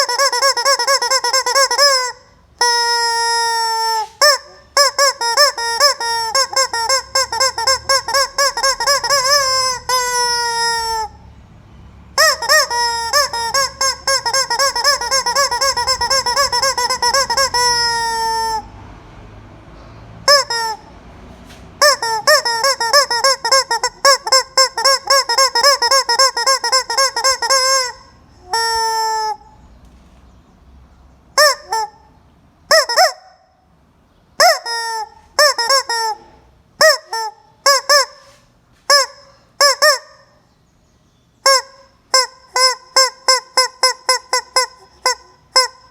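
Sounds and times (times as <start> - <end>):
chicken squawking: 0.0 - 11.2, 12.2 - 18.8, 20.2 - 29.6, 31.4 - 33.5, 34.4 - 40.5, 41.4 - 45.9.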